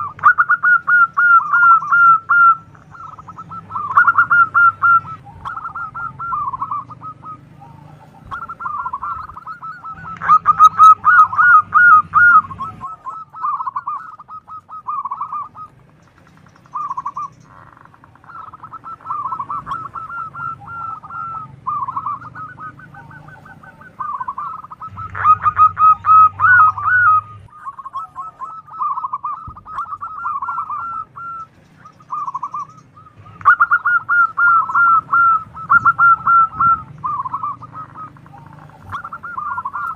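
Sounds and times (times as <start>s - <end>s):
doves cooing in trilling phrases: 0.0s - 39.9s.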